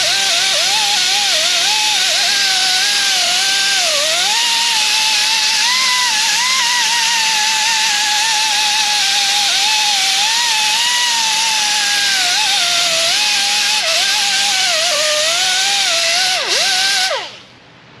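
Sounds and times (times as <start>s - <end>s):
air grinder hissing and whining: 0.0s - 17.5s.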